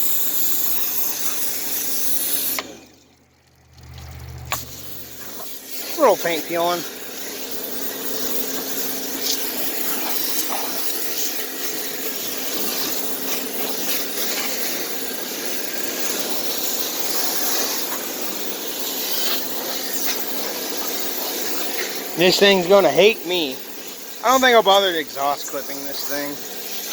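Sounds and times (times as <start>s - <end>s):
pressure washer humming: 0.0s - 26.9s
water jet hissing: 0.0s - 26.9s.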